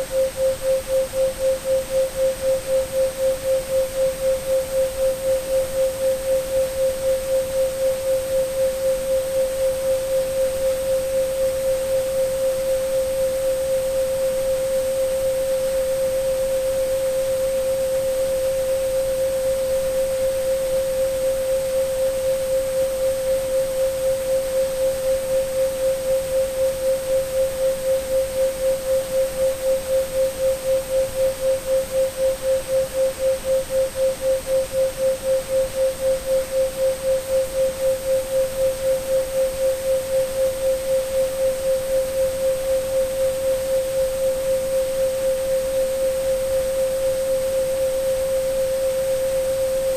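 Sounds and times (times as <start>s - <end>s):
noise hiss: 0.0s - 49.9s
pulsing sine tone: 0.0s - 49.9s.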